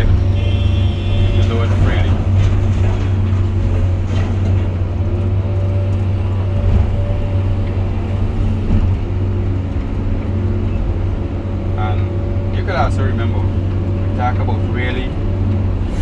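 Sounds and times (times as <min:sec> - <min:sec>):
excavator engine droning: 0:00.0 - 0:16.0.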